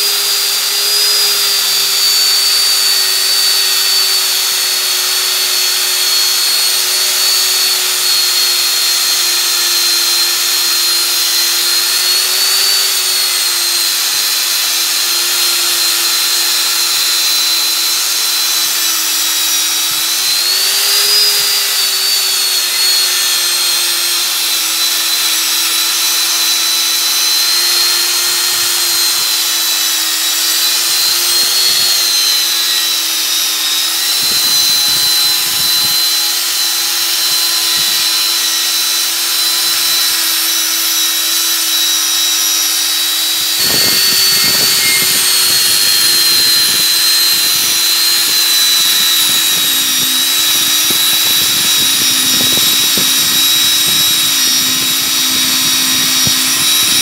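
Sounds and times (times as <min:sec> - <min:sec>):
angle grinder motor whine: 0:00.0 - 0:57.0
wire wheel scouring metal: 0:01.8 - 0:57.0.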